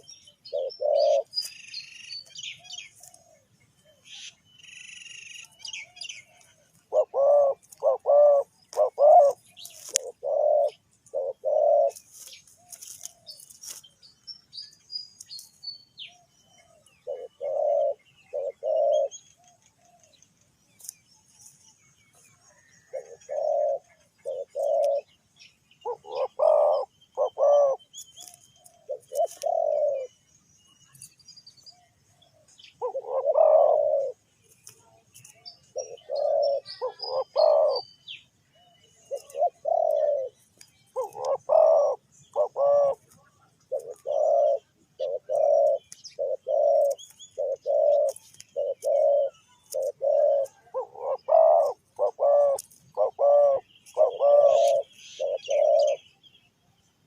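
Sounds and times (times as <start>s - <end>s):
doves cooing: 0.0s - 13.8s, 16.0s - 20.3s, 22.4s - 25.1s, 25.8s - 30.2s, 31.7s - 56.2s
small birds chirping: 0.0s - 57.0s.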